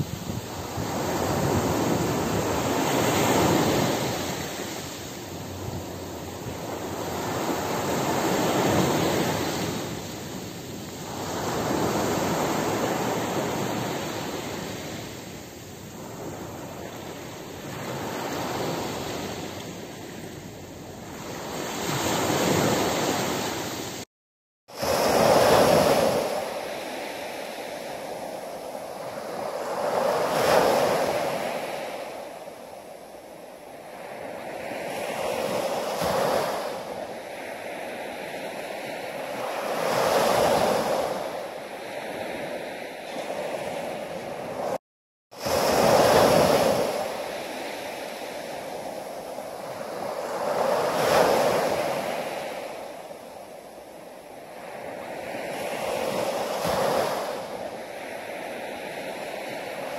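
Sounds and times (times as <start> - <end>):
waves breaking on a beach: 0.0 - 24.1, 24.7 - 59.9.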